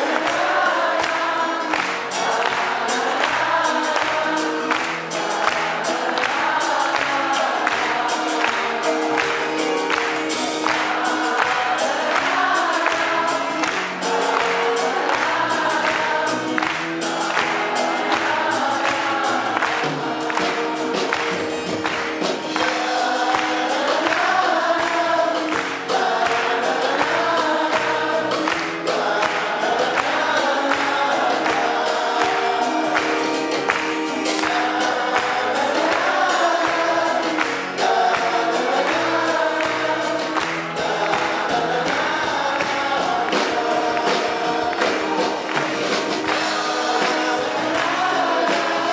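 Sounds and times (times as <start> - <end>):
drums keeping a steady beat: 0.0 - 48.9
guitars: 0.0 - 48.9
men singing together: 0.0 - 48.9.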